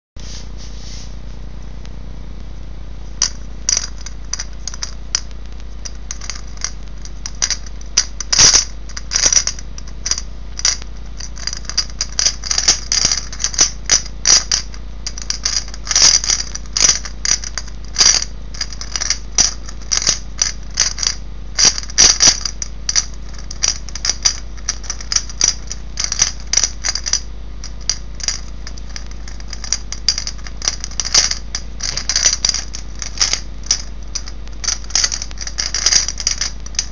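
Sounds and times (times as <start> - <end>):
steady low hum: 0.2 - 36.9
puzzle pieces clicking and rattling: 3.2 - 36.9.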